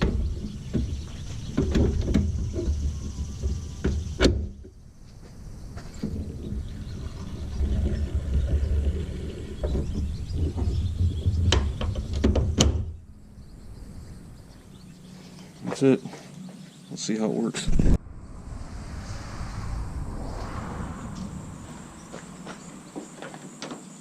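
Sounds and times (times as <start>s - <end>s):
low rumbling handling noise: 0.0s - 15.6s, 17.7s - 24.0s.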